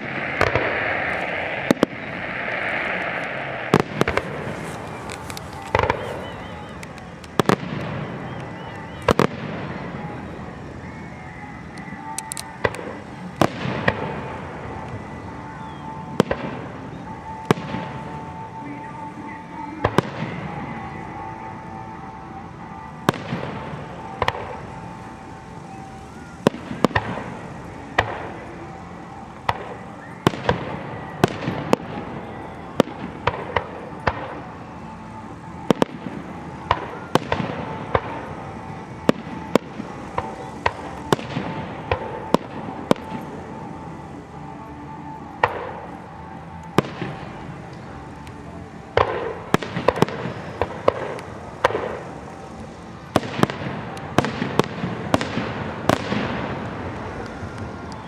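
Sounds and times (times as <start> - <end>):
firework bangs: 0.0 - 58.0
firework crackling: 0.0 - 58.0
music: 0.0 - 58.0.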